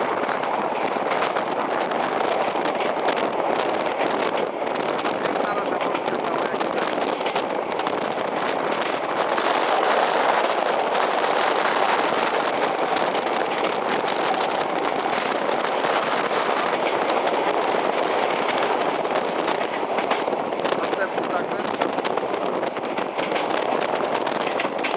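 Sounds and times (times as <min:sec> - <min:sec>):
train wheels on rails: 0:00.0 - 0:24.9.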